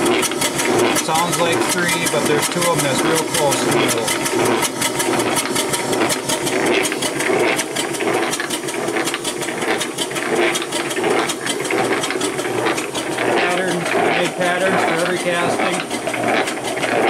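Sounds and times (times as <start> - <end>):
model steam engine exhaust beating: 0.0 - 17.0.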